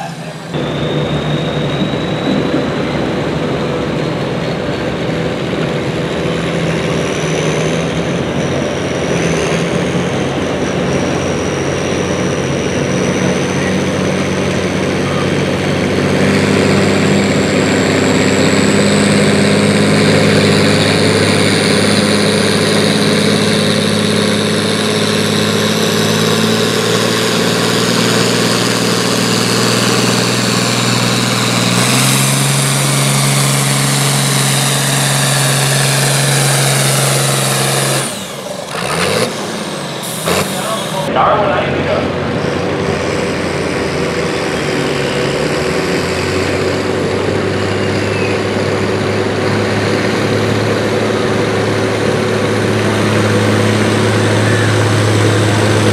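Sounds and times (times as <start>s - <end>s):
diesel tractor engine under load: 0.0s - 55.9s
high turbo whine: 0.0s - 55.9s.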